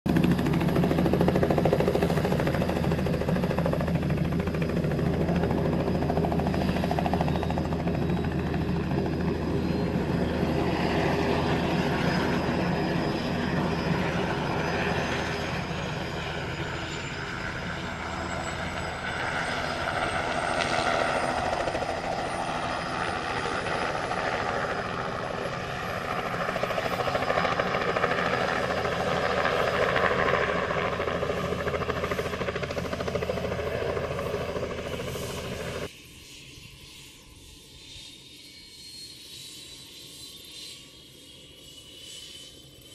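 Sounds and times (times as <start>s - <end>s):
helicopter engine whine spooling up: 0.1s - 42.9s.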